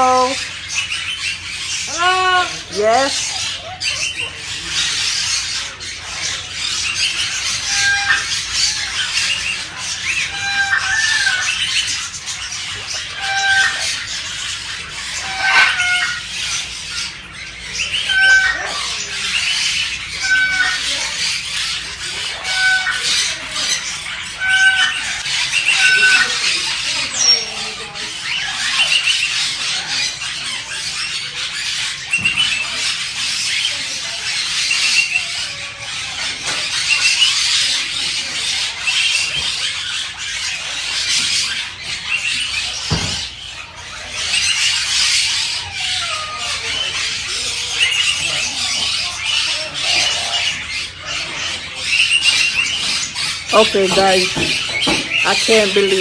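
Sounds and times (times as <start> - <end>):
clear pitched bird call: 0.0 - 56.0
parakeets chattering: 0.0 - 56.0.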